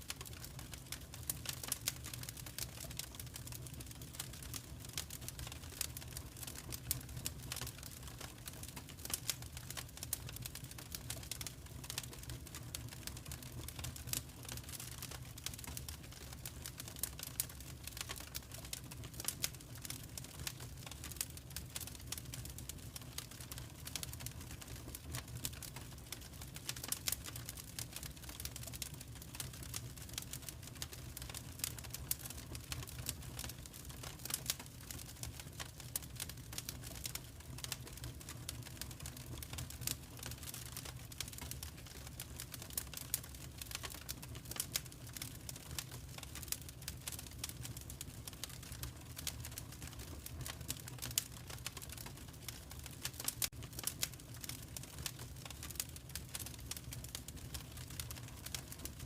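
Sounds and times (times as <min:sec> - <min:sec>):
fireplace fire crackling: 0:00.0 - 0:59.0
low rumble of fire: 0:00.0 - 0:59.0.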